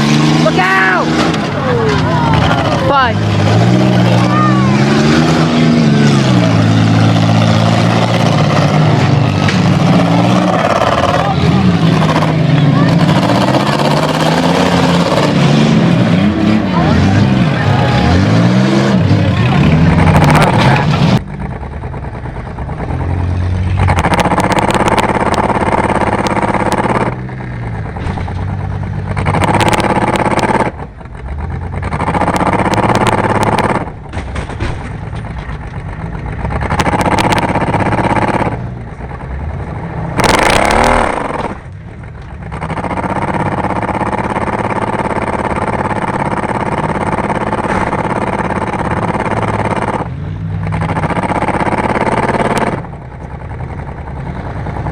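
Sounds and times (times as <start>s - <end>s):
engine revving: 0.0s - 54.9s
race car engines racing: 0.0s - 54.9s.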